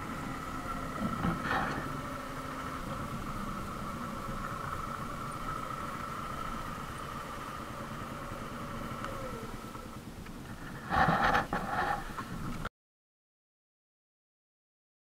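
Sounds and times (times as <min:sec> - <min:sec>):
motorcycle engine idling: 0:00.0 - 0:12.6.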